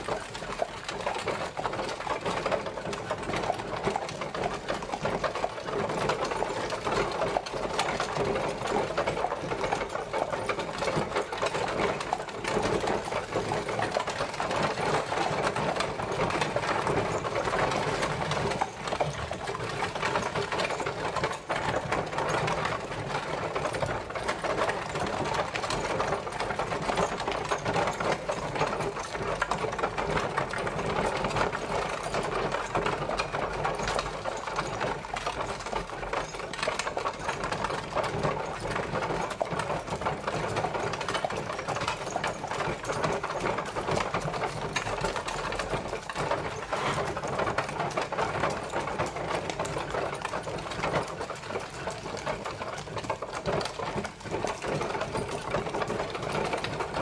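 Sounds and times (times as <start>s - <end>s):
carriage rattling and clattering: 0.0s - 57.0s.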